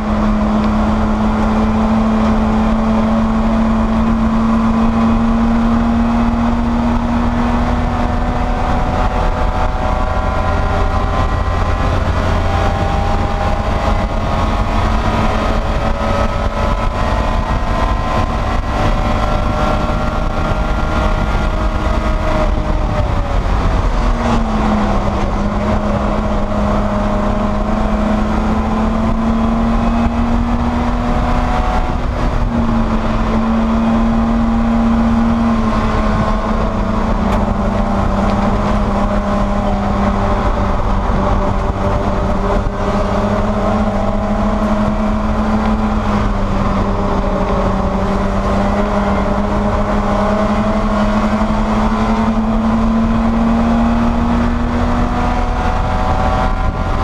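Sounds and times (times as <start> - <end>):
race car engine pulling hard: 0.0 - 57.0
wind and road rumble: 0.0 - 57.0.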